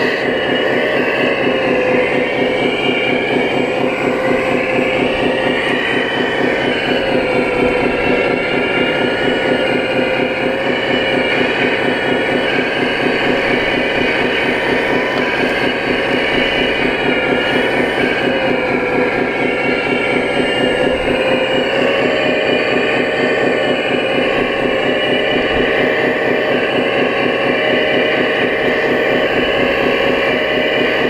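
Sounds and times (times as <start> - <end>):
model machine motors whining: 0.0 - 31.0.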